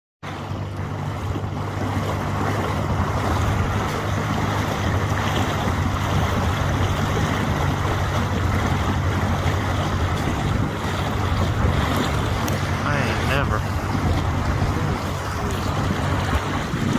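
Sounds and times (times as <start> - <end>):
boat motor humming: 0.2 - 16.9
wind noise on microphone: 0.4 - 16.9.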